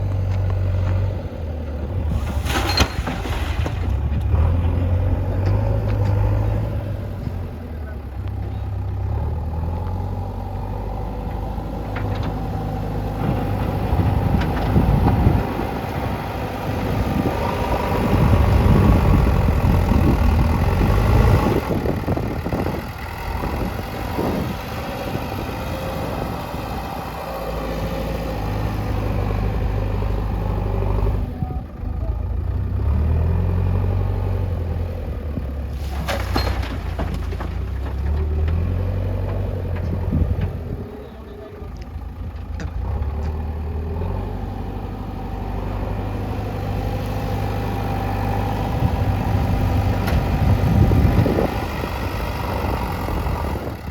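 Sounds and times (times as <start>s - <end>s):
diesel engine under load: 0.0s - 53.9s.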